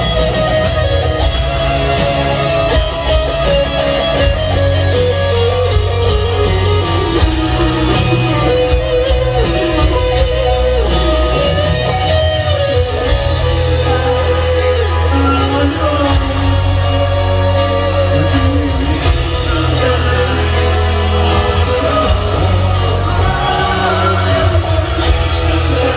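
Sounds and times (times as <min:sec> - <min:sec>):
bass: 0:00.0 - 0:25.9
electric guitar solo: 0:00.0 - 0:25.9
steady drums: 0:00.0 - 0:25.9.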